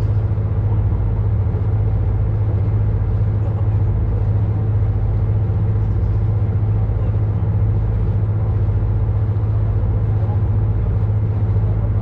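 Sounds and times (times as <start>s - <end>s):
ship engine humming: 0.0s - 12.0s.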